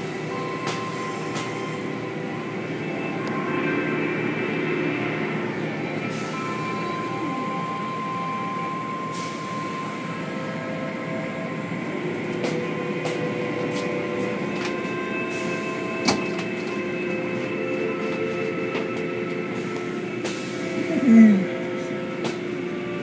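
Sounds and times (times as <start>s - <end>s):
car wash machinery noise: 0.0s - 23.0s.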